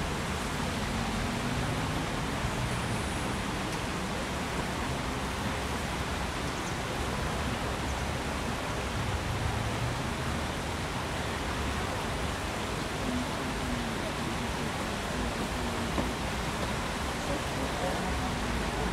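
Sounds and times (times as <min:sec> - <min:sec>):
river rushing over rocks: 0:00.0 - 0:18.9.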